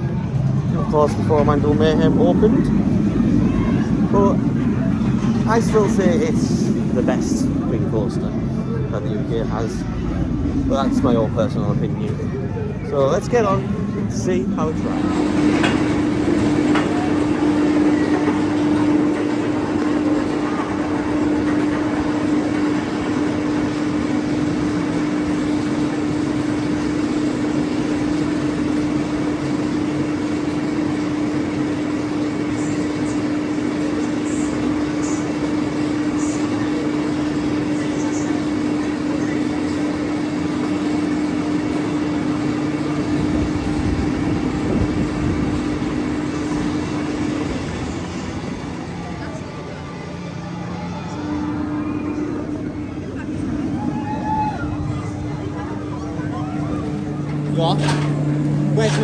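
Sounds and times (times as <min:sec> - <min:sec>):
ride machinery hum: 0:00.0 - 0:59.0
roller coaster rumble: 0:00.0 - 0:59.0.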